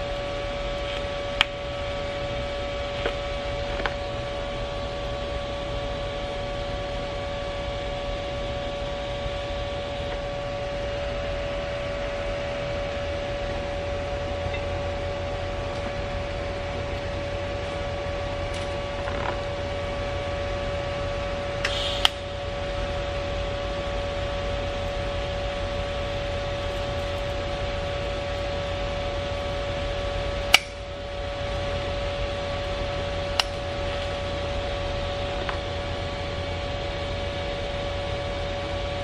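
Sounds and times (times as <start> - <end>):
welder electrical hum: 0.0 - 39.0.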